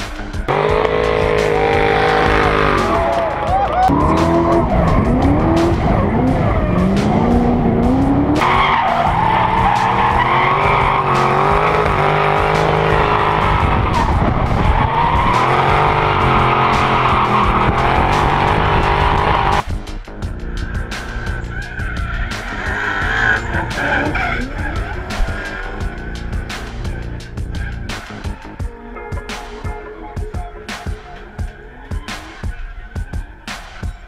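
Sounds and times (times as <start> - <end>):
car engines revving hard: 0.0 - 19.6, 20.7 - 28.7
tyres squealing and skidding: 0.4 - 19.6, 20.4 - 34.0.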